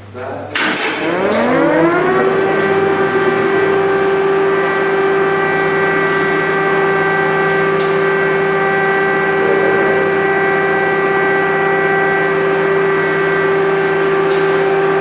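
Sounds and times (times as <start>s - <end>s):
air-raid siren: 0.8s - 15.0s.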